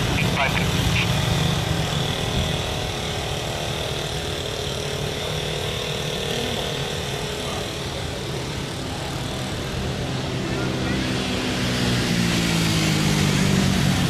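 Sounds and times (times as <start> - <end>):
jet engines whining and rumbling: 0.0 - 14.0.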